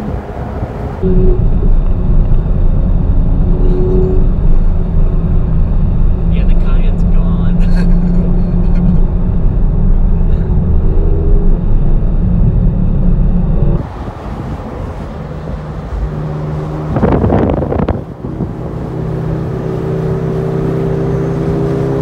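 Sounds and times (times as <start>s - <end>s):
car engine at speed: 0.0s - 22.0s
road noise: 0.0s - 22.0s.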